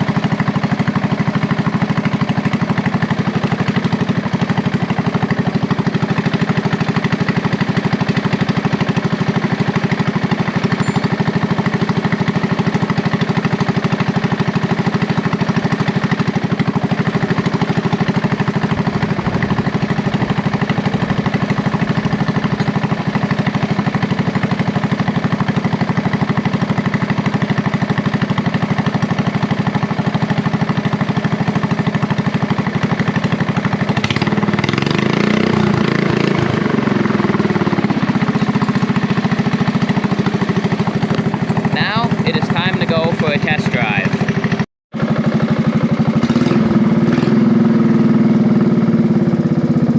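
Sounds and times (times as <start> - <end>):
riding mower engine running: 0.0 - 49.9.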